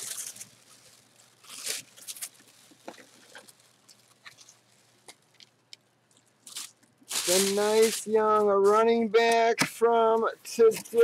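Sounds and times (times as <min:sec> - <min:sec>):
jersey and packaging rustling: 0:00.0 - 0:11.0.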